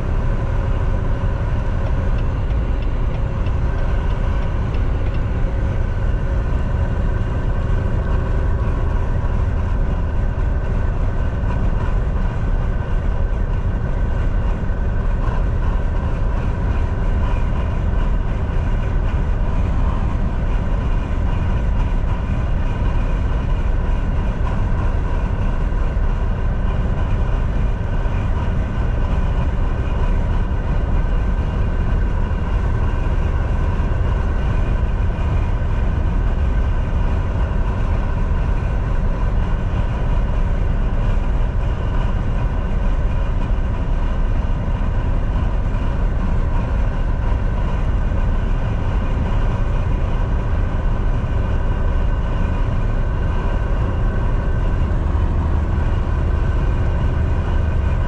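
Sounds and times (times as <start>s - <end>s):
faint constant whine: 0.0s - 58.0s
truck engine and road drone: 0.0s - 58.0s.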